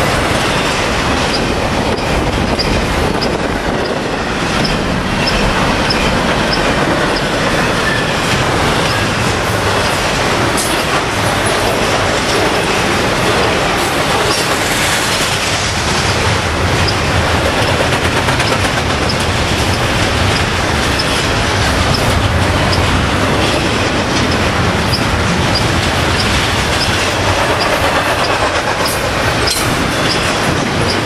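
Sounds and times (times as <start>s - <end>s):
steel wheels rolling on rail: 0.0s - 31.0s.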